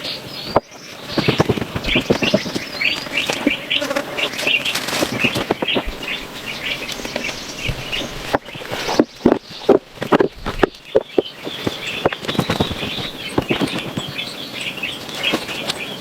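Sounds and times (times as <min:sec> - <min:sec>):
irregular clicks and knocks: 0:00.4 - 0:15.9.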